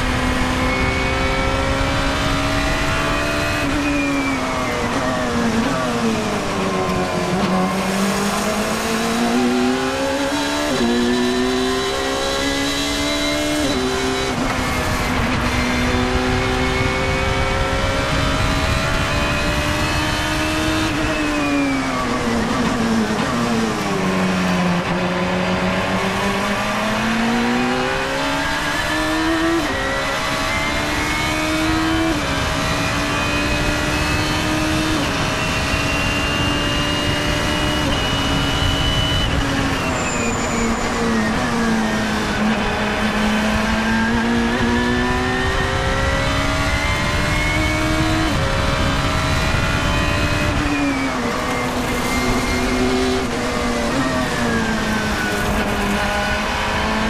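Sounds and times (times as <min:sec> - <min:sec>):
racing car engine revving: 0:00.0 - 0:57.0
wind and road noise: 0:00.0 - 0:57.0.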